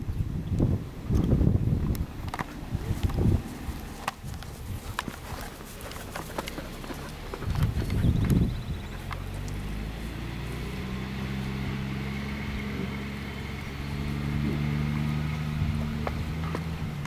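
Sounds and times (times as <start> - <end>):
vehicle engine idling: 0.9 - 17.0.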